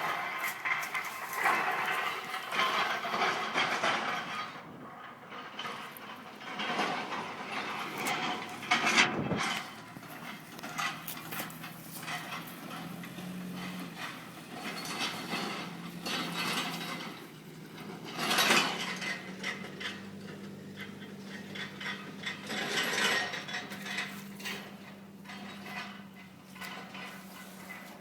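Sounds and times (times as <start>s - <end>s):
truck clattering and ratcheting: 0.0s - 28.0s.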